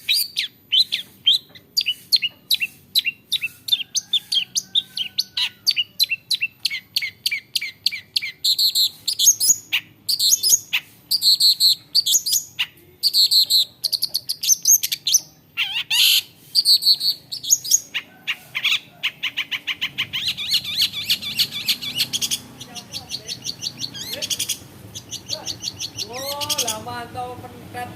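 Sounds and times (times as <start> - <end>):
bird singing varied song: 0.0 - 27.9.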